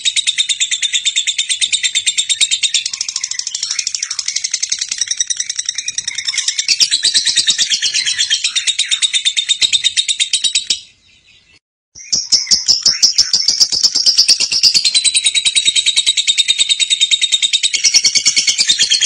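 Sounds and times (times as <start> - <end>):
lovebird shrill chattering song: 0.0 - 19.0.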